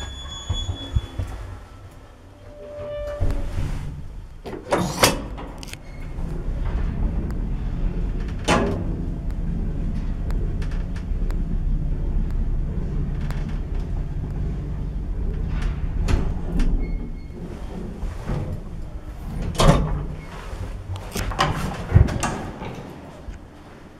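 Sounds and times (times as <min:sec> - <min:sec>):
lift hum: 0:00.0 - 0:23.9.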